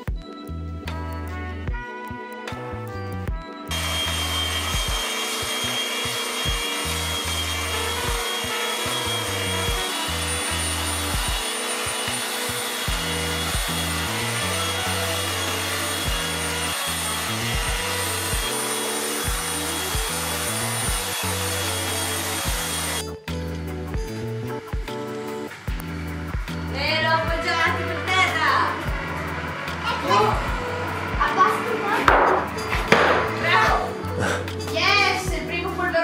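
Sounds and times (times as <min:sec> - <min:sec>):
background music with beat: 0:00.0 - 0:35.8
belt sander sanding wood: 0:03.7 - 0:23.1, 0:24.1 - 0:34.0.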